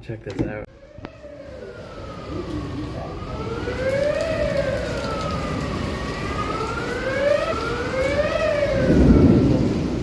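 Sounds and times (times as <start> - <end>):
siren wailing: 0.7 - 10.0.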